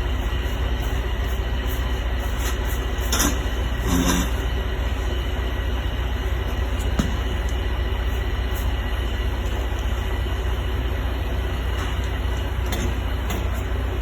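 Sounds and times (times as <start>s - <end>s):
low rumble and hum: 0.0s - 14.0s.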